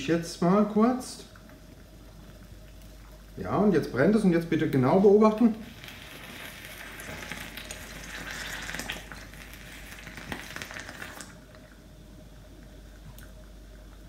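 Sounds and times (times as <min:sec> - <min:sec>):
crackling sizzle: 0:00.0 - 0:14.0.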